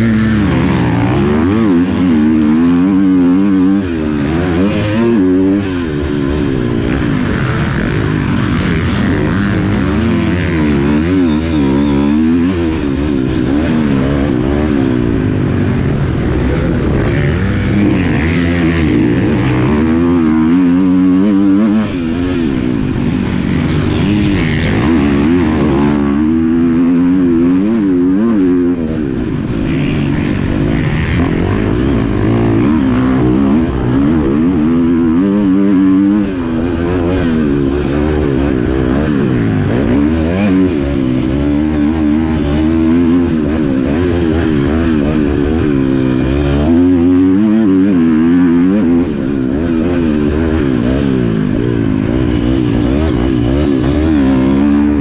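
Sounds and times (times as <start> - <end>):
motocross motorcycles revving: 0.0 - 55.0.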